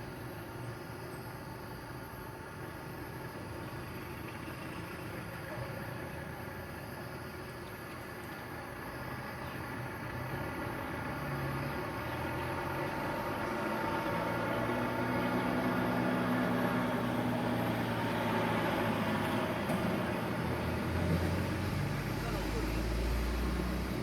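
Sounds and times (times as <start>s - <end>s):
vehicle engine running: 2.6s - 24.0s.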